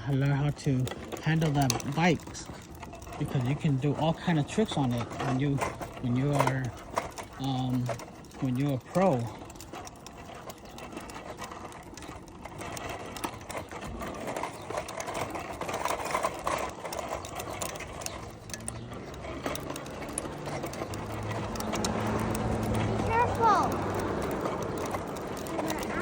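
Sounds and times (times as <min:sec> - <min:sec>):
bicycle freewheel ratchet clicking: 0:00.0 - 0:26.0
tyre noise on pavement: 0:00.0 - 0:26.0.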